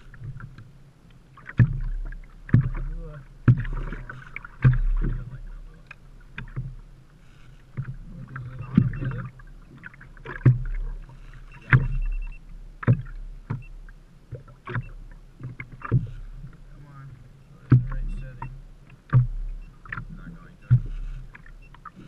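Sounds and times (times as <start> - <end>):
low rumble of wind and sea: 0.0 - 22.0
water splashing: 0.0 - 22.0
waves slapping against boat hull: 0.0 - 22.0.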